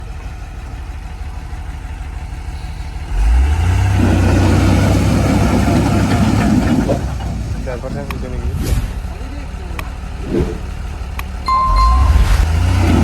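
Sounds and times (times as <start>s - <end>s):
diesel engine idling and revving: 0.0s - 13.0s.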